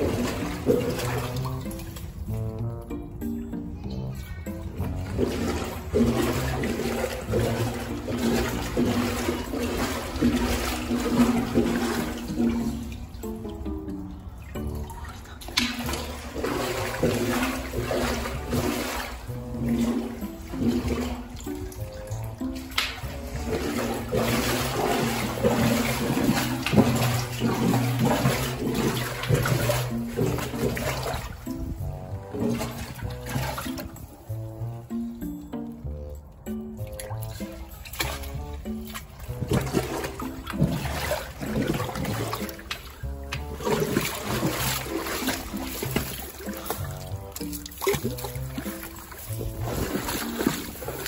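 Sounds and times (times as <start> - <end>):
water sloshing around wading feet: 0.0 - 2.5, 4.7 - 35.8, 36.5 - 51.0.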